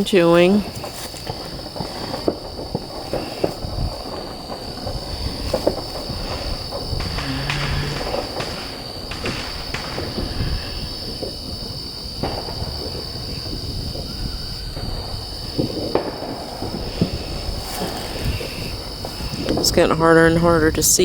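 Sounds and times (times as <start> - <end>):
crickets chirping chorus: 0.0 - 21.0
distant fireworks popping: 0.0 - 21.0
low outdoor rumble: 0.0 - 21.0.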